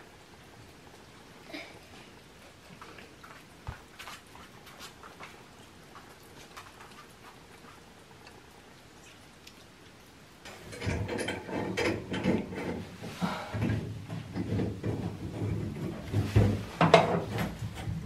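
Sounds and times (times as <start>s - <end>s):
cats chewing food: 1.9s - 16.8s.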